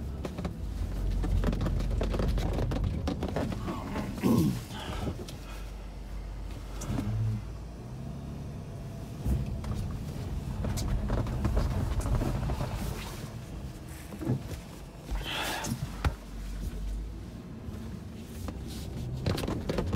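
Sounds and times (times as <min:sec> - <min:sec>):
car engine running at low revs: 0:00.0 - 0:19.9.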